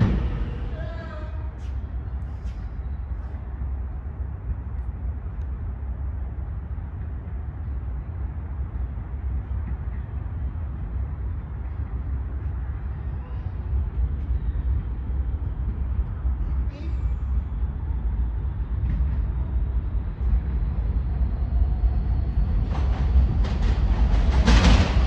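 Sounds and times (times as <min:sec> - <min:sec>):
low rumble and hiss: 0:00.0 - 0:25.0.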